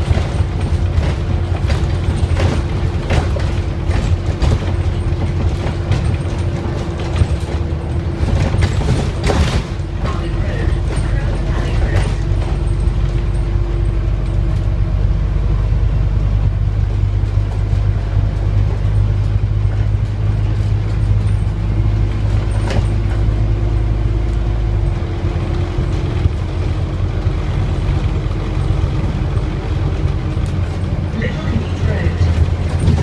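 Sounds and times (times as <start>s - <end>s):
bus diesel engine droning: 0.0s - 33.0s.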